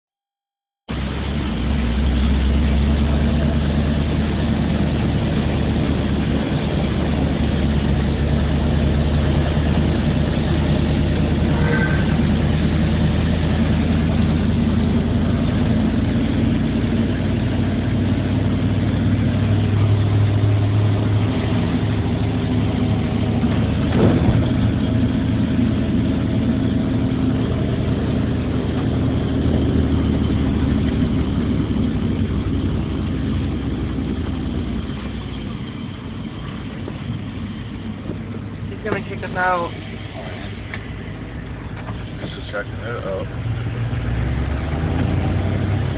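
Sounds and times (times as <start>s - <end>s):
car engine running: 0.9s - 45.9s
wind and road noise: 0.9s - 45.9s.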